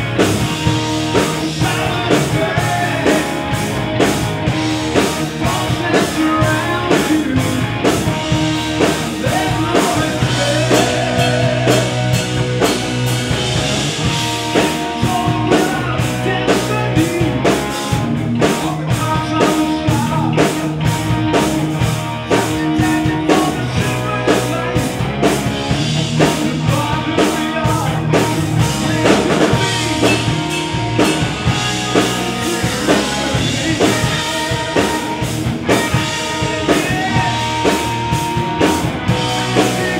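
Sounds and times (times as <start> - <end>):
rock band playing: 0.0 - 39.9
man singing: 1.0 - 3.6, 5.0 - 12.3, 14.5 - 20.9, 22.3 - 25.4, 26.0 - 39.9.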